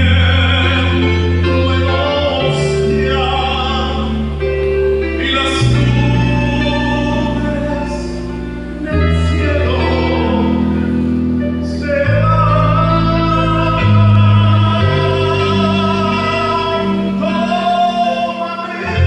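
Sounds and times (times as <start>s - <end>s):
instrumental chords and bass: 0.0s - 19.0s
worship song singing: 0.0s - 19.0s.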